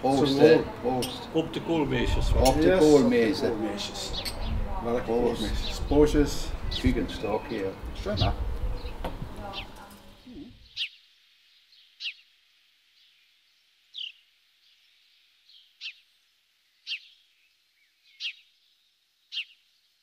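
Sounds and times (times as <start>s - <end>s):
faint outdoor background noise: 0.0s - 20.0s.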